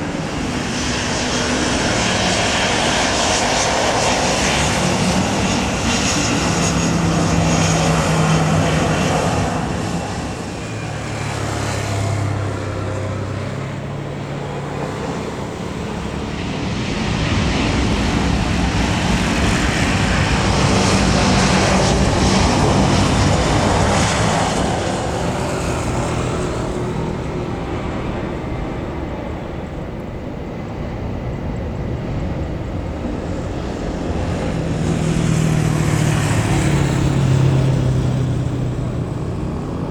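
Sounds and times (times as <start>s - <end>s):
jet airliner engines passing: 0.0s - 39.9s.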